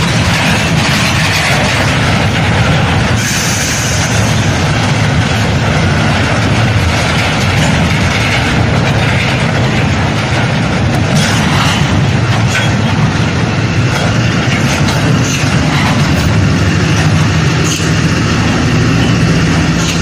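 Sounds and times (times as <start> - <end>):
train wagons rumbling: 0.0 - 20.0
wheel clicks over rail joints: 0.0 - 20.0.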